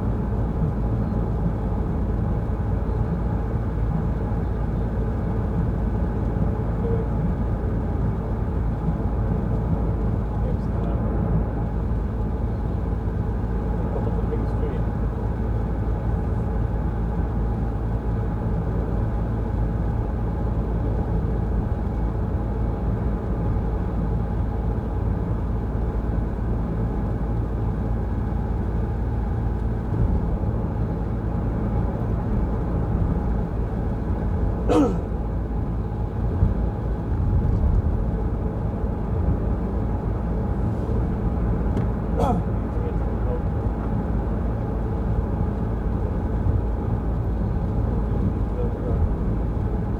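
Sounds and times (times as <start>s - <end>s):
car road and engine rumble: 0.0s - 49.9s.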